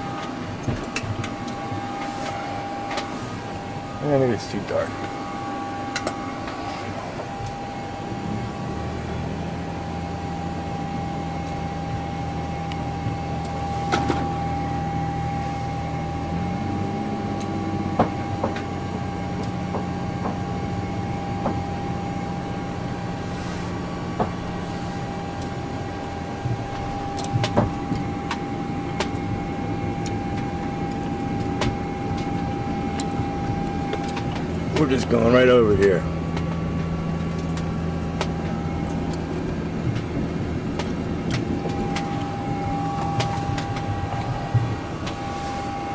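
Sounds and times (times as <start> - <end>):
aircraft systems whine: 0.0 - 45.9
low drone: 0.0 - 45.9.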